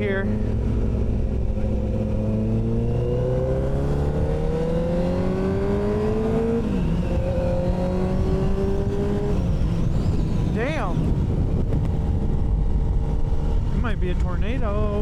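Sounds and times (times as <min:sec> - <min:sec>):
motorcycle engine revving: 0:00.0 - 0:15.0
wind on microphone: 0:00.0 - 0:15.0.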